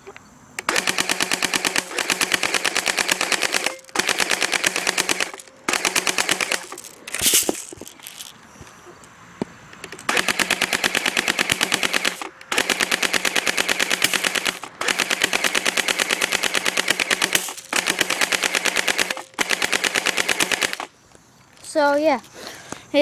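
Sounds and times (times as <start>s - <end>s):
airsoft gun firing full auto: 0.6s - 8.2s, 9.8s - 21.0s.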